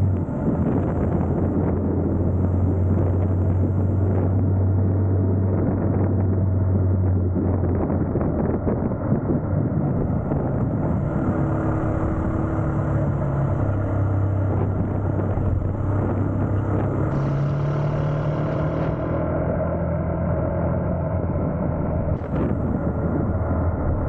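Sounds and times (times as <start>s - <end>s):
motorcycle engine cruising: 0.0s - 24.0s
wind and road rush: 0.0s - 24.0s.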